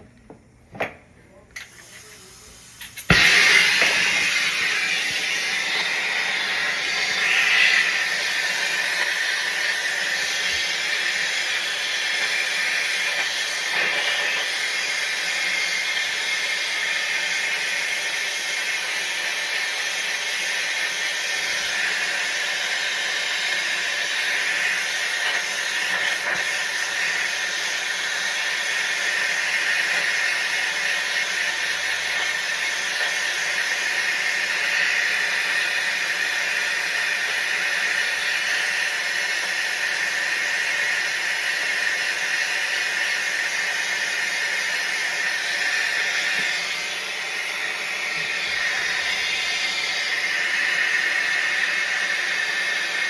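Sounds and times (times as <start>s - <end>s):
hiss of rushing gas: 1.6s - 53.0s.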